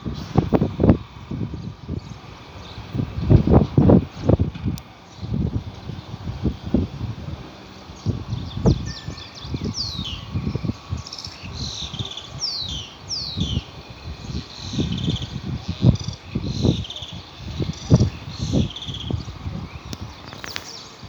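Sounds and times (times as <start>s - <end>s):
wind buffeting microphone: 0.0s - 21.0s
small birds chirping: 0.1s - 21.0s.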